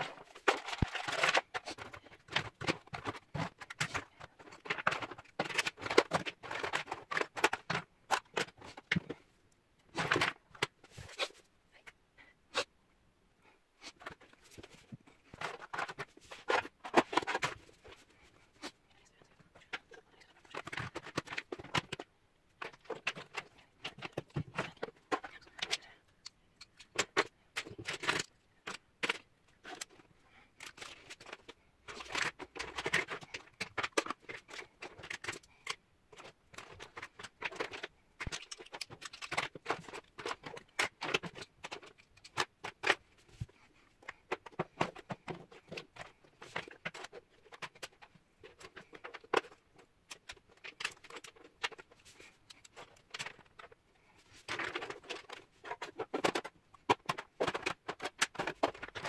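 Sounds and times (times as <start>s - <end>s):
plastic items clicking on wood: 0.0s - 9.2s, 19.4s - 59.0s.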